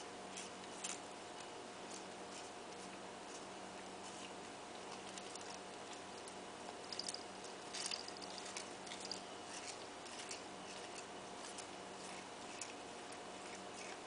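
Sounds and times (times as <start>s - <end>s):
cat chewing leaves: 0.0s - 14.0s.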